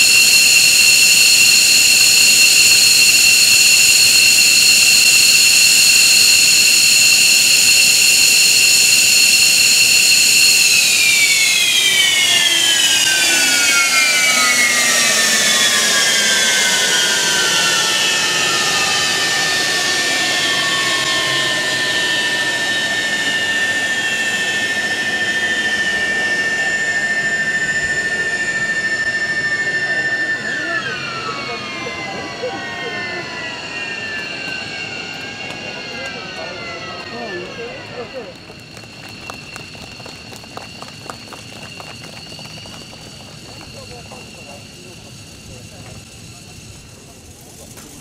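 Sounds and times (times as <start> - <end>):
jet engine whining: 0.0 - 48.0
steady high whine: 0.0 - 48.0.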